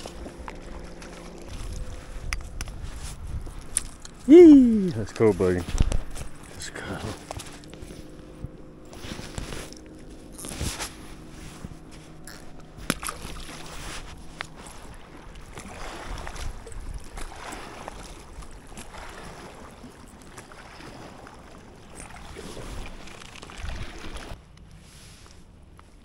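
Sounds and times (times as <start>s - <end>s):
wind rumbling on microphone: 0.0s - 19.5s, 22.2s - 26.0s
faint steady drone: 0.0s - 22.9s
water sloshing: 0.0s - 25.6s.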